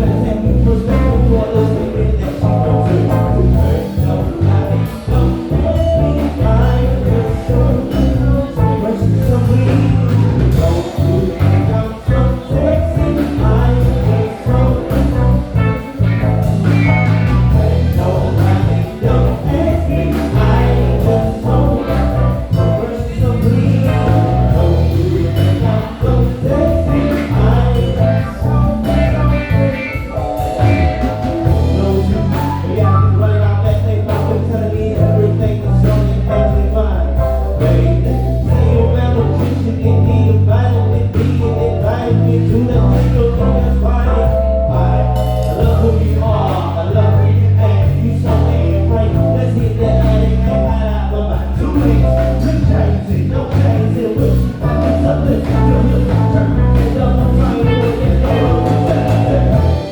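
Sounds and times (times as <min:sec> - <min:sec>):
drum kit: 0:00.0 - 0:59.9
electric bass line: 0:00.0 - 0:59.9
guitar: 0:00.0 - 0:59.9
keyboard: 0:00.0 - 0:59.9.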